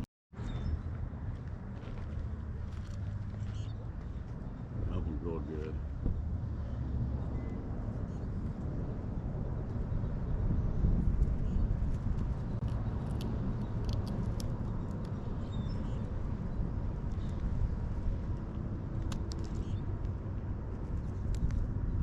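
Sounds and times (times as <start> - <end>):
low outdoor rumble: 0.4 - 22.0.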